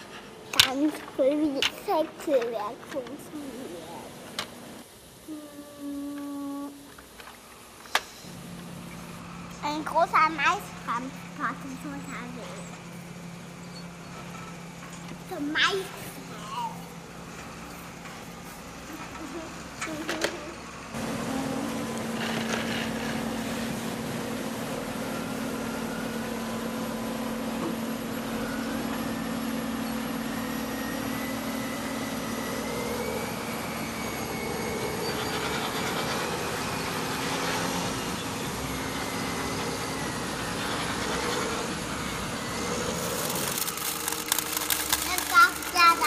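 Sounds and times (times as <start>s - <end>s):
large engine droning: 8.2s - 46.0s.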